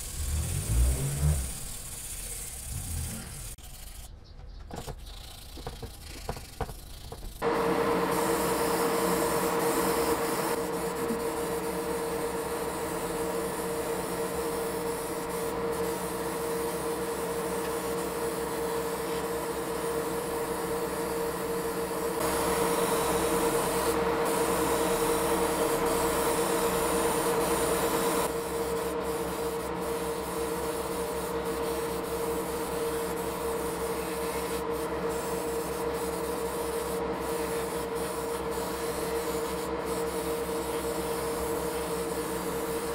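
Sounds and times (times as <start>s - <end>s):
airbrush hissing: 0.0s - 4.1s, 5.0s - 42.9s
small motor humming: 0.0s - 42.9s.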